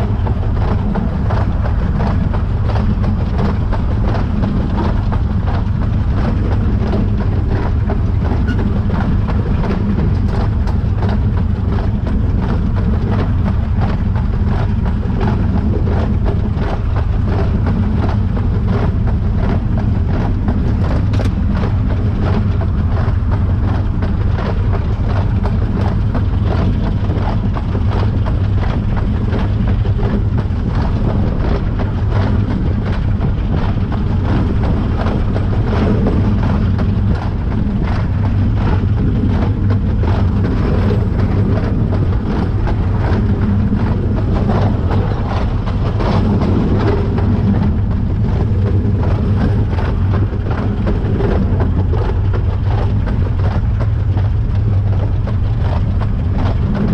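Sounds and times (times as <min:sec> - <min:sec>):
knocks and clatter: 0:00.0 - 0:56.9
steam engine running: 0:00.0 - 0:56.9.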